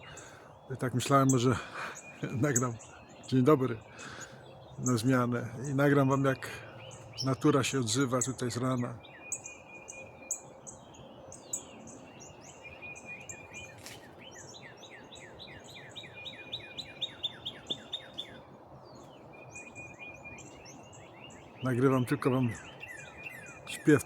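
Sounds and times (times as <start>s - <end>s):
bird trill: 0.0s - 24.0s
faint outdoor background noise: 0.0s - 24.0s
songbirds chirping: 0.0s - 24.0s.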